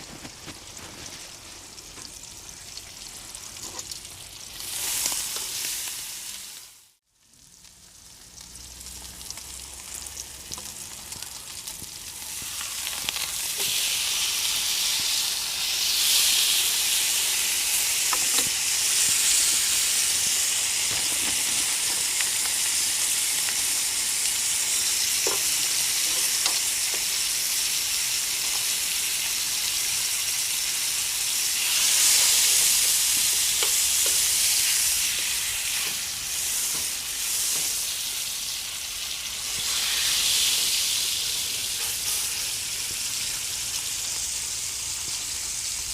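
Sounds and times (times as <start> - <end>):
meat sizzling in a frying pan: 0.0 - 45.9.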